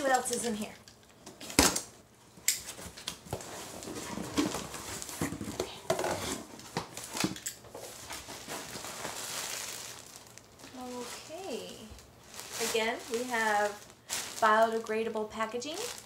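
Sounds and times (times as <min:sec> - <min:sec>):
packing material rustling: 0:02.6 - 0:16.0.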